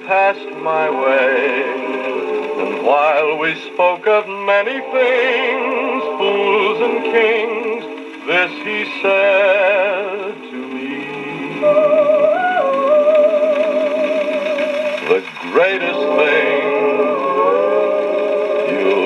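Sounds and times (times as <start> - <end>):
male lead voice singing: 0.0 - 12.2, 15.0 - 19.0
backing vocal group singing: 0.0 - 19.0
gramophone record playing: 0.0 - 19.0.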